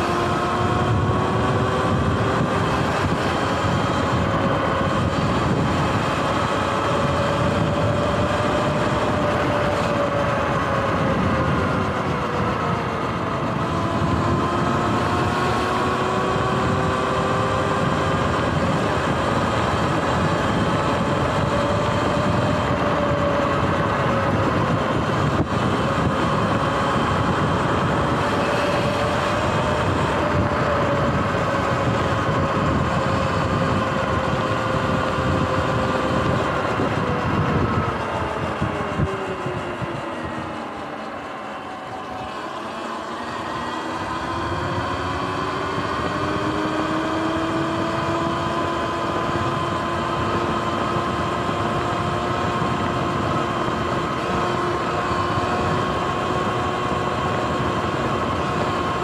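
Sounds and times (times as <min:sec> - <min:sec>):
electric motor whining: 0:00.0 - 0:59.0
wind and road noise: 0:00.0 - 0:59.0.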